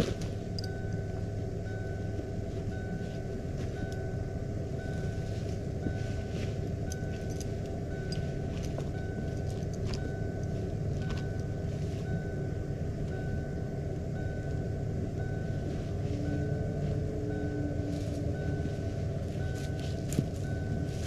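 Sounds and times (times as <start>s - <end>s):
pickup truck idling: 0.0s - 21.0s
tow chain clinking: 0.0s - 21.0s
warning chime dinging: 0.3s - 21.0s.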